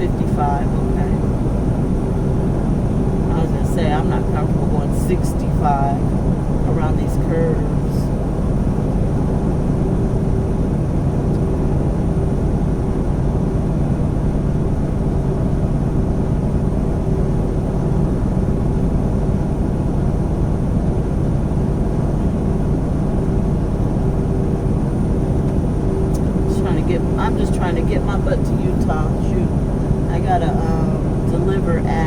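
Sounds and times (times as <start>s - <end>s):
road noise: 0.0s - 13.0s, 16.6s - 32.0s
diesel truck engine drone: 0.0s - 32.0s
steady hum: 0.0s - 32.0s.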